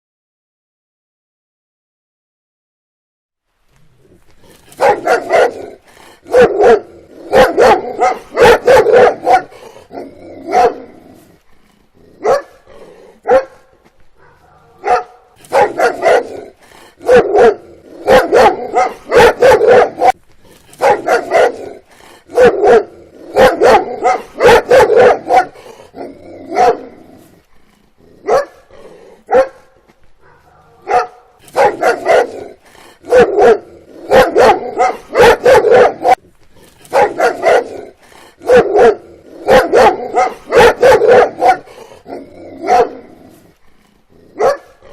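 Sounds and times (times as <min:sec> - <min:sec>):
dog barking: 0:04.6 - 0:11.2, 0:12.2 - 0:20.2, 0:20.8 - 0:27.1, 0:28.2 - 0:36.2, 0:36.8 - 0:43.4, 0:44.3 - 0:44.9.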